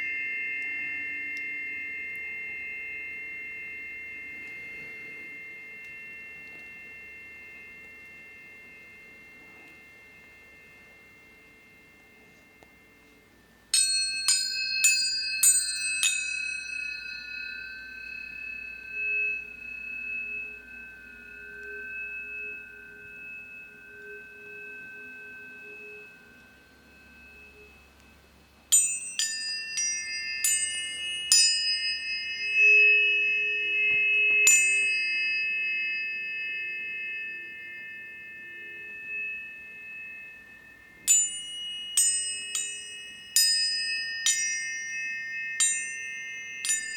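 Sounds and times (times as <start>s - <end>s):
tuning forks ringing: 0.0s - 46.9s.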